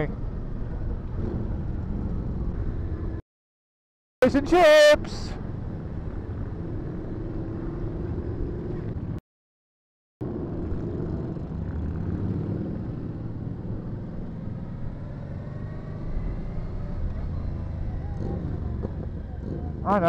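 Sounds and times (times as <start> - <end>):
road and wind noise: 0.0 - 3.2, 4.2 - 9.2, 10.2 - 20.0.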